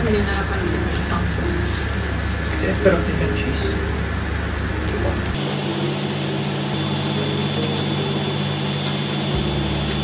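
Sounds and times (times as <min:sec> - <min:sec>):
pork sizzling on grill: 0:00.0 - 0:10.0.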